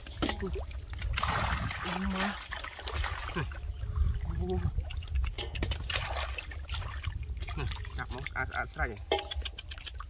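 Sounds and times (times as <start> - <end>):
muddy water splashing: 0.0 - 10.0.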